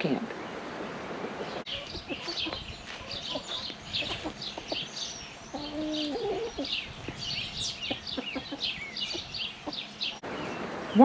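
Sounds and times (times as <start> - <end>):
chickens clucking: 0.8 - 10.7.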